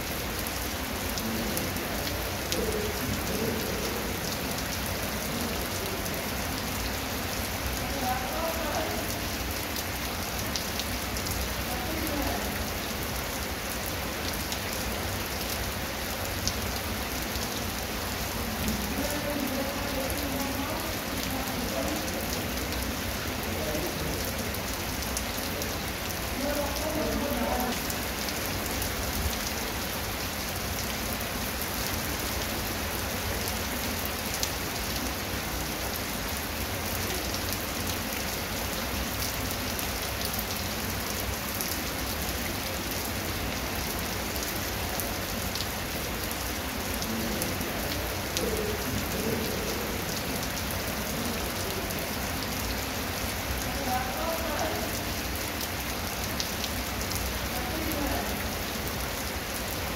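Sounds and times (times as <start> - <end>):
heavy rain on concrete and grass: 0.0 - 59.9.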